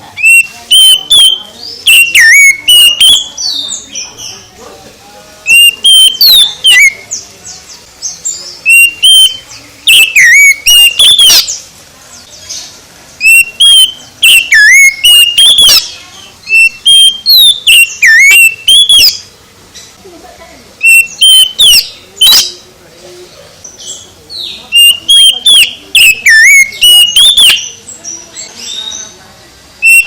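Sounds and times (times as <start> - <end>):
bird singing whistled notes: 0.1 - 4.5, 5.5 - 11.6, 12.2 - 19.3, 20.8 - 22.6, 23.6 - 29.2, 29.8 - 30.0.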